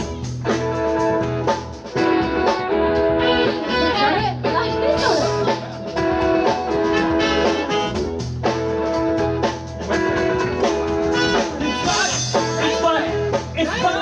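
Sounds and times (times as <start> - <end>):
live band playing upbeat tune: 0.0 - 14.0.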